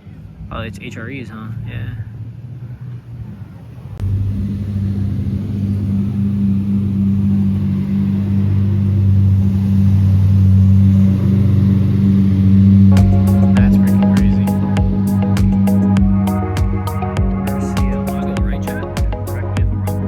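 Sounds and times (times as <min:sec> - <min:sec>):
car engine starting and running: 0:00.0 - 0:20.0.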